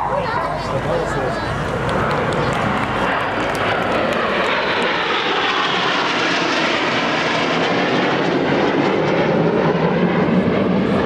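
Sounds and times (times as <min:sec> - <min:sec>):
jets flying past overhead: 0:00.0 - 0:11.0.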